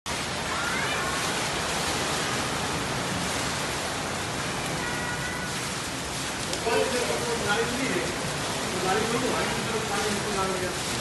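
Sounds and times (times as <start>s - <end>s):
heavy rain on pavement and cars: 0.1s - 11.0s.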